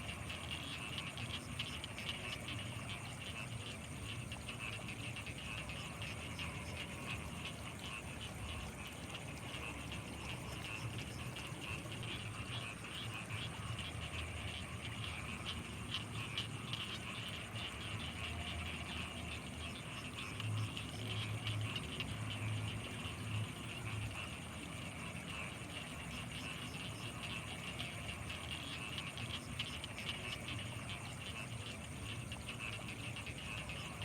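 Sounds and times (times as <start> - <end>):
frogs clicking calls: 0.0 - 34.0
low pulsing croaks: 0.0 - 34.0.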